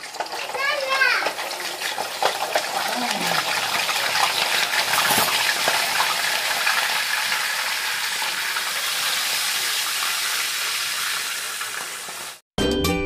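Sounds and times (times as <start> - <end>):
fish frying in hot oil: 0.0 - 12.4.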